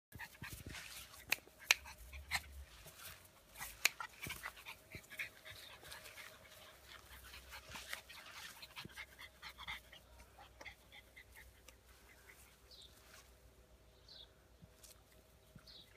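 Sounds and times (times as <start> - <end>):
puppies scuffling in grass: 0.2 - 13.8.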